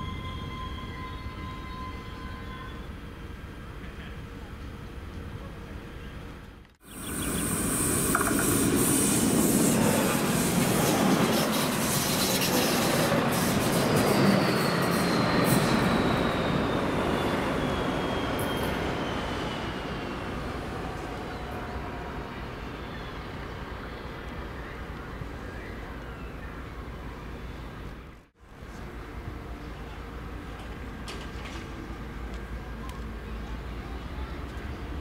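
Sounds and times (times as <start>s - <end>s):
diesel railcar passing: 0.0s - 35.0s.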